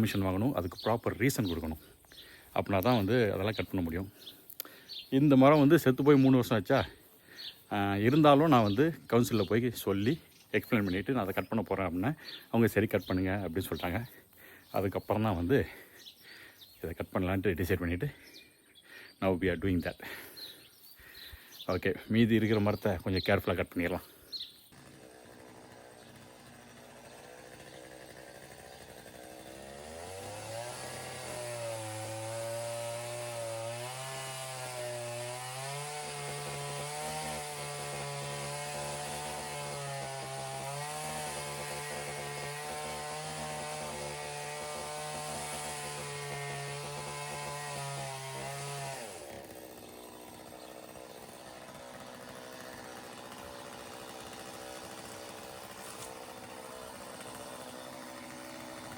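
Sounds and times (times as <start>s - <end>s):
chainsaw revving and cutting: 0.0s - 18.4s, 23.4s - 58.9s.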